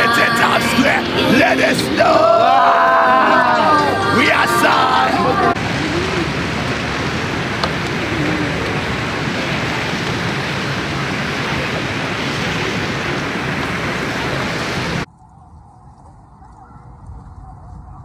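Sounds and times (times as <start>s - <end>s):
blizzard wind rushing: 0.0s - 15.1s.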